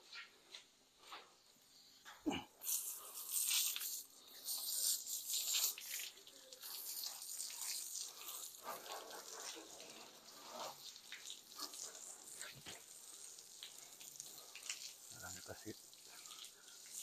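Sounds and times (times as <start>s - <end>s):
hose nozzle spraying water: 2.6s - 17.0s.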